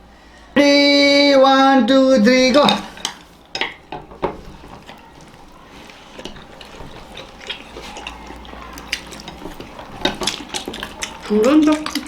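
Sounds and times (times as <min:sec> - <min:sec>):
chopsticks clicking on plates: 0:02.2 - 0:12.0
eating mouth sounds: 0:02.2 - 0:12.0.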